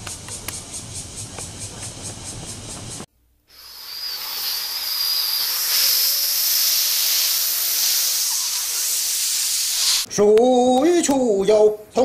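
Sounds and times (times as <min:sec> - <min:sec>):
steady high-pitched hiss: 0:00.0 - 0:10.3.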